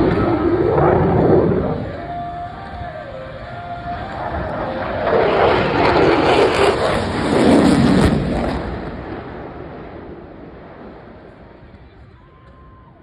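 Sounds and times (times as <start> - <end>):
jet aircraft passing: 0.0 - 12.1.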